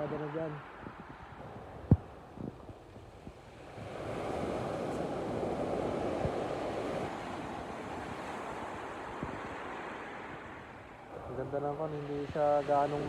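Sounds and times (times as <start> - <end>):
waves washing against shore: 0.0 - 13.0.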